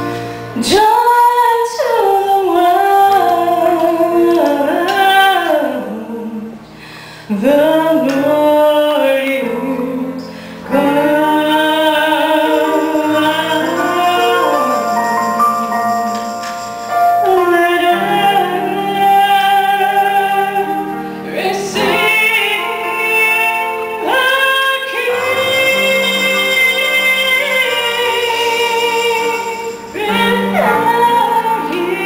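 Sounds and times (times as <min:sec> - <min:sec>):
electric keyboard: 0:00.0 - 0:32.0
woman singing through microphone: 0:00.6 - 0:06.6, 0:07.3 - 0:16.6, 0:17.2 - 0:32.0.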